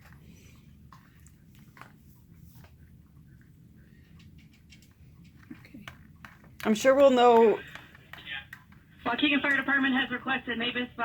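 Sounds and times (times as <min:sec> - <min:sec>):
faint clicks and rustles: 0:00.0 - 0:09.7
steady low hum: 0:00.0 - 0:11.0.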